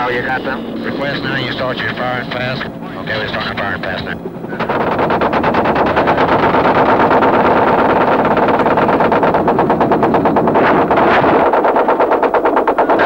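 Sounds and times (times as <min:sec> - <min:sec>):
helicopter engine: 0:00.0 - 0:13.0
helicopter rotor chopping: 0:00.0 - 0:13.0.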